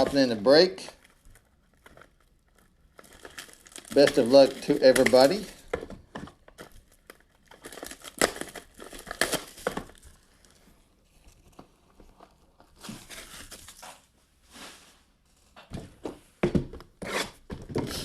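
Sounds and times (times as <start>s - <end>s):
plastic wrapping crinkling: 0.0s - 15.5s.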